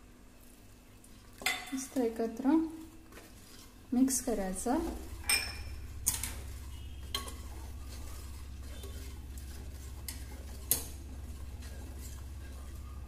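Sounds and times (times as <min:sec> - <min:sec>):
steady low hum: 0:00.0 - 0:13.0
wooden spatula stirring thick gravy: 0:00.4 - 0:13.0.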